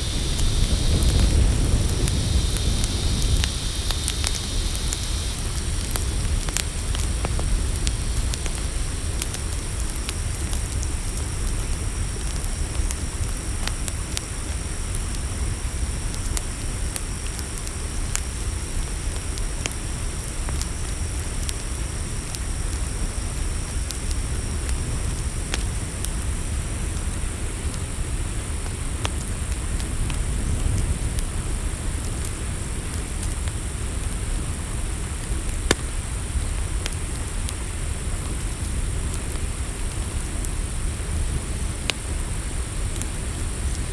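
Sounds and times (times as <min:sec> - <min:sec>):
campfire crackling and popping: 0:00.0 - 0:43.9
crickets chirring: 0:00.0 - 0:43.9.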